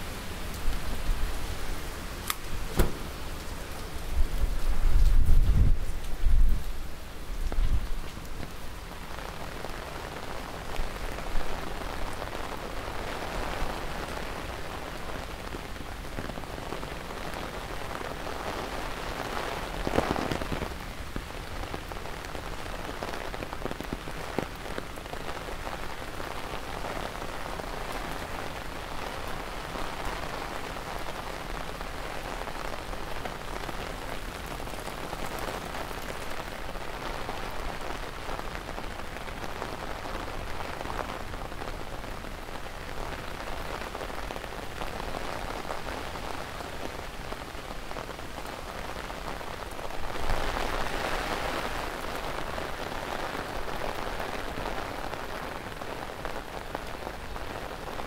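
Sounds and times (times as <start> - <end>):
rain pattering on umbrella: 0.0 - 58.0.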